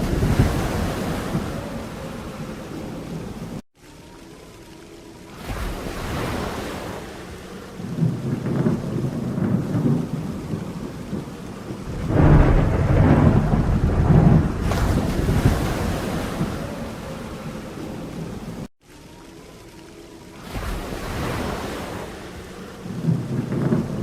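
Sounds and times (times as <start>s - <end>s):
thunder rumbling: 0.0s - 3.6s, 5.6s - 18.7s, 20.5s - 24.0s
steady rain: 0.0s - 24.0s.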